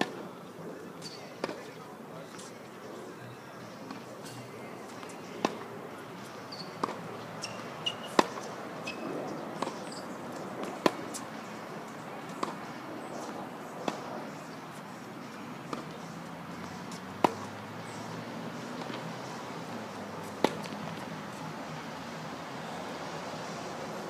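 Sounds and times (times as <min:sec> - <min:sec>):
tennis balls struck by rackets: 0:00.0 - 0:02.9, 0:03.7 - 0:24.0
tennis balls bouncing on court: 0:01.0 - 0:02.5, 0:03.8 - 0:04.2, 0:04.8 - 0:24.0.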